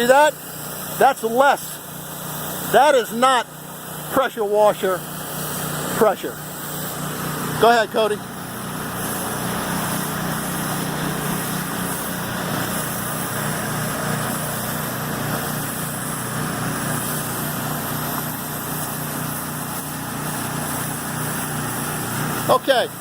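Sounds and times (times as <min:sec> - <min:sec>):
hiss of water spray: 0:00.0 - 0:23.0
small gas engine running: 0:00.0 - 0:23.0.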